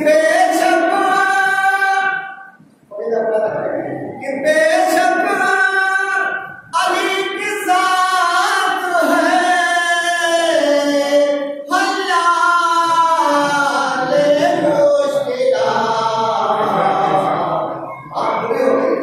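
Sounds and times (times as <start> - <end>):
man chanting through a microphone: 0.0 - 19.0.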